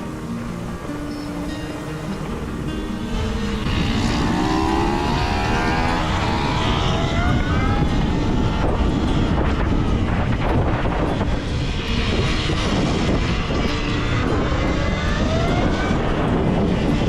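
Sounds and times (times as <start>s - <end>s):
electric motor whine: 0.0s - 17.0s
wind rumble on microphone: 0.0s - 17.0s.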